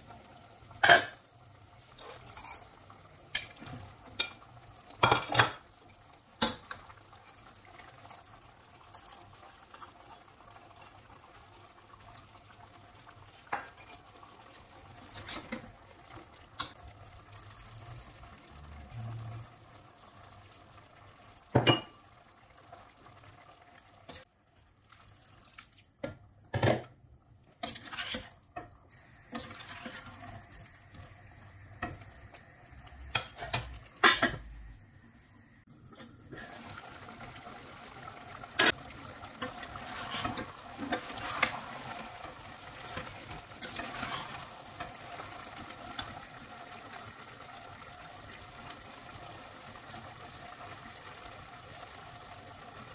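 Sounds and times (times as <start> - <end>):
pot cooking hiss: 0.0 - 24.3, 27.6 - 52.9.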